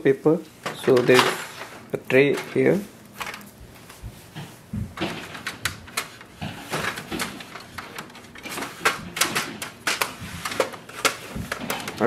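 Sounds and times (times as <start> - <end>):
paper rustling: 0.7 - 12.0.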